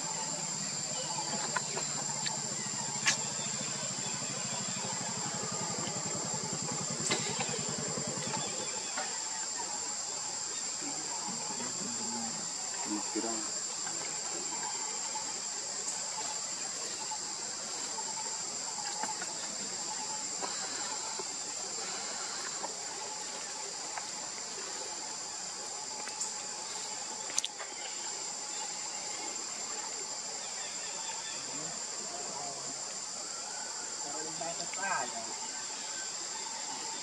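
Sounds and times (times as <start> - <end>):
insects chirping: 0.0 - 37.0.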